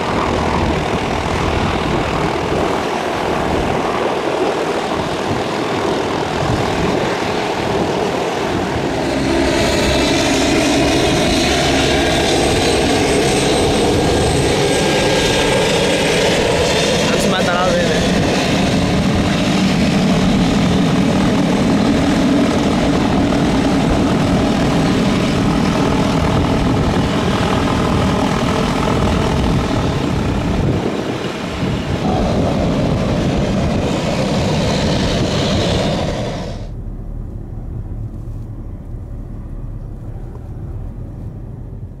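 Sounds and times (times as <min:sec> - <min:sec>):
plane rumble in the air: 0:00.0 - 0:42.0
turboprop engine running: 0:00.0 - 0:42.0.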